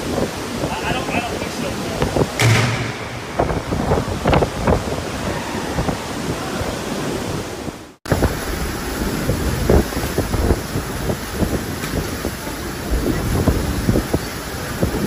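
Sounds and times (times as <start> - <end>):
roar of wind-driven rain: 0.0 - 15.0
wind gusting on microphone: 0.0 - 15.0.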